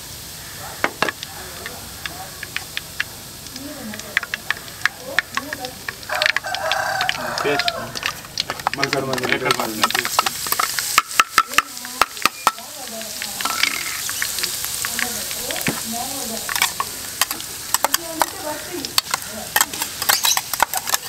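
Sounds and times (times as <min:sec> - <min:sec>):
aromatics sizzling in oil: 0:00.0 - 0:21.0.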